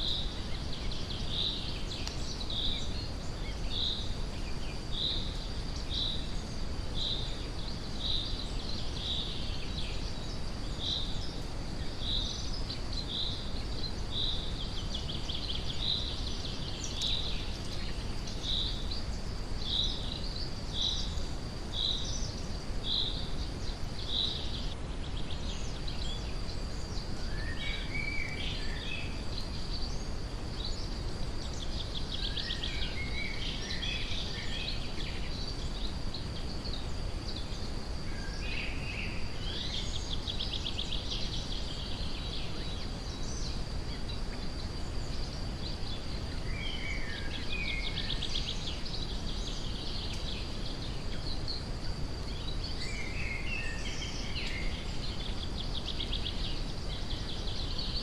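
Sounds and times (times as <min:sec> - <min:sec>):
deep steady hiss: 0:00.0 - 0:58.0
forest birds singing: 0:00.0 - 0:58.0.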